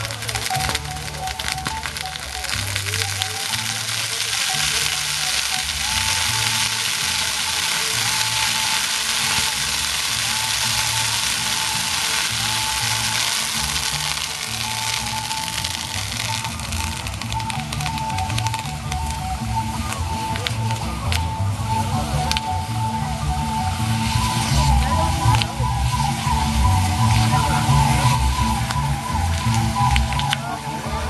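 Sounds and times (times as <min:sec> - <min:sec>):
fireworks crackling: 0:00.0 - 0:31.0
music with bass line and melody: 0:00.0 - 0:31.0.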